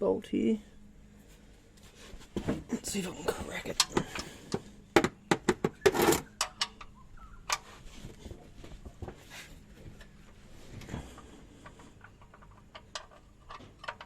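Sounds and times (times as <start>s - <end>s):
faint handling noise: 1.1s - 4.8s, 6.0s - 14.0s.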